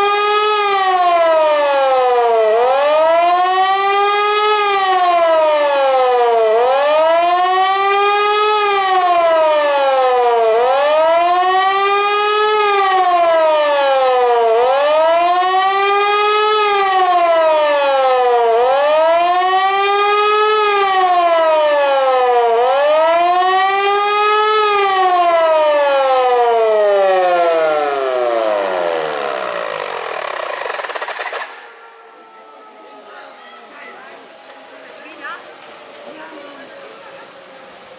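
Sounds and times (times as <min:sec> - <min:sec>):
pneumatic siren howling: 0:00.0 - 0:37.9.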